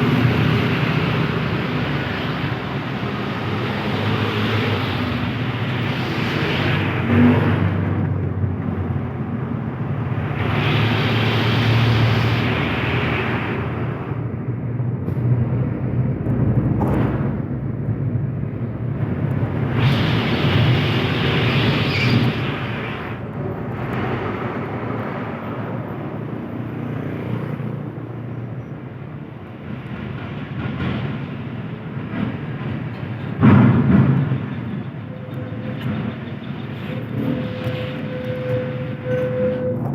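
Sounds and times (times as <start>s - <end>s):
highway traffic passing: 0.0s - 39.9s.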